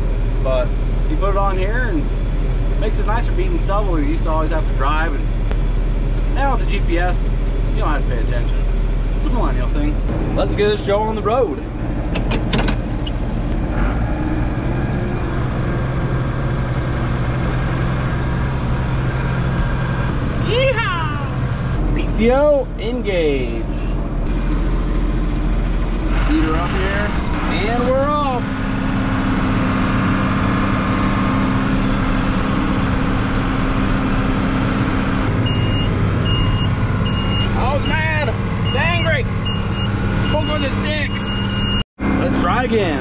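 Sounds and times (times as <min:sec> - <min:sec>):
diesel tractor engine running: 0:00.0 - 0:43.0.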